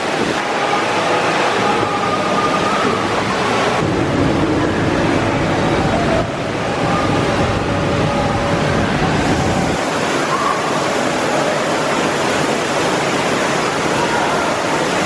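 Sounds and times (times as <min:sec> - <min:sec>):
rushing falling water: 0:00.0 - 0:15.0.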